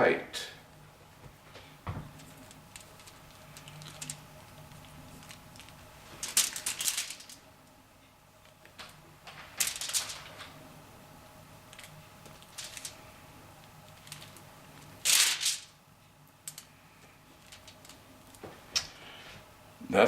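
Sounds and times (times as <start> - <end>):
crackly rustling and slapping of bacon: 1.0 - 7.8, 8.4 - 10.7, 11.6 - 19.2.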